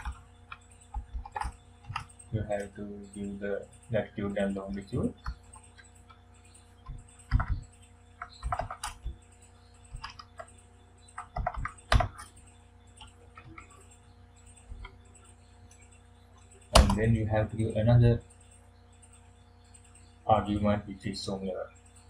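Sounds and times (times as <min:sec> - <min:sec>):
computer keyboard typing: 0:00.0 - 0:22.0
faint steady hum: 0:00.0 - 0:22.0.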